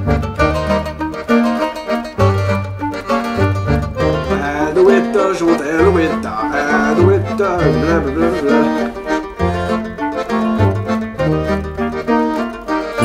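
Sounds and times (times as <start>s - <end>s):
accordion melody: 0.0s - 13.0s
repeating bass notes: 0.0s - 13.0s.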